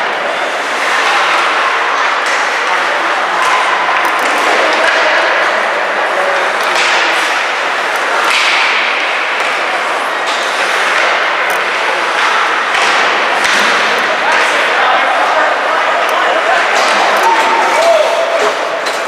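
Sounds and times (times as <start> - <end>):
skates scraping ice: 0.0 - 19.0
hockey sticks and puck cracking: 0.1 - 19.0.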